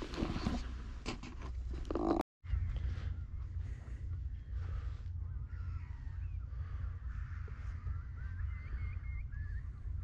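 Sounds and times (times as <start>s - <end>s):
birds calling: 1.9s - 10.0s.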